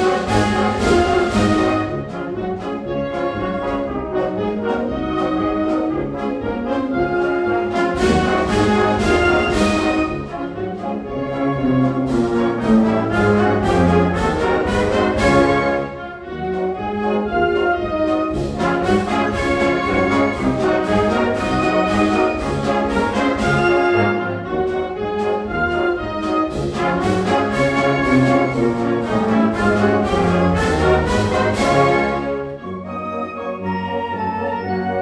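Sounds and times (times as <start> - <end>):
symphonic band with brass: 0.0 - 35.0.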